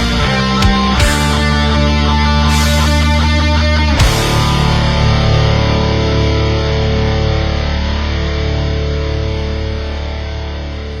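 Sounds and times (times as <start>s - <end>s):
distorted electric guitar chord: 0.0s - 11.0s.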